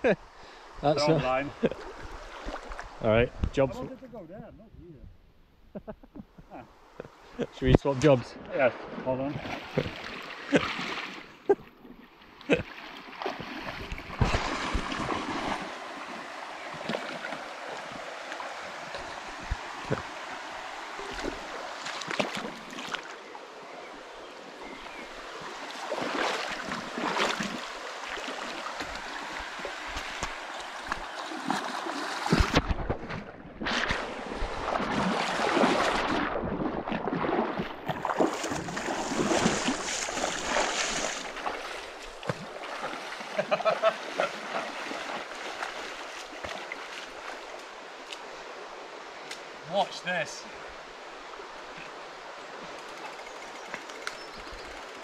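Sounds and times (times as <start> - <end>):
water rushing: 7.2 - 11.5, 12.3 - 55.0.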